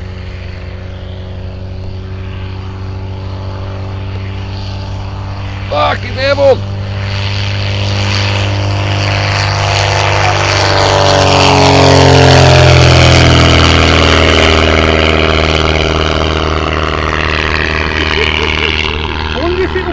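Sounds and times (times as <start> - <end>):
propeller aircraft flying past: 0.0 - 19.9.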